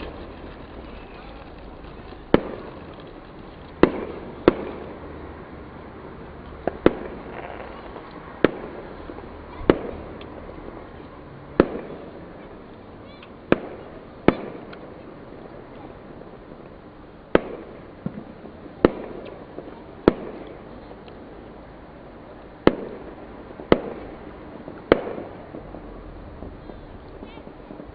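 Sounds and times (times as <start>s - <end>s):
fireworks banging: 0.0s - 27.9s.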